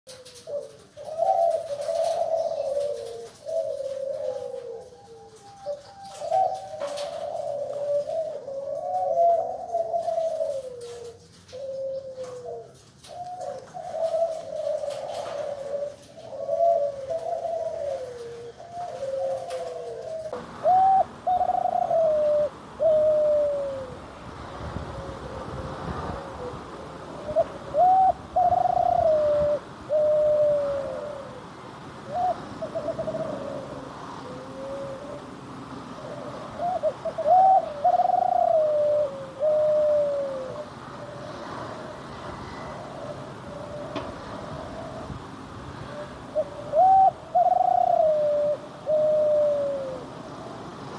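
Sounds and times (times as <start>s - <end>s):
dove cooing: 0.1s - 50.9s.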